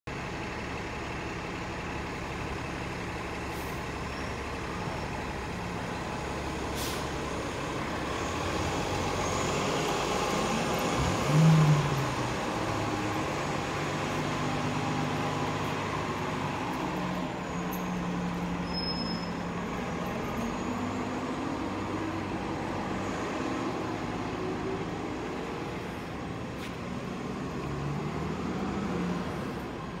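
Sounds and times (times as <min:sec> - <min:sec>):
electric bus hum and whine: 0:00.1 - 0:30.0.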